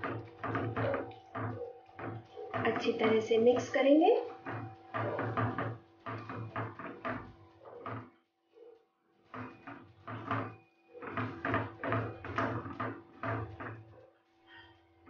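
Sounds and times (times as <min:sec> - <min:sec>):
spatula scraping a frying pan: 0:00.0 - 0:08.1, 0:09.2 - 0:13.9.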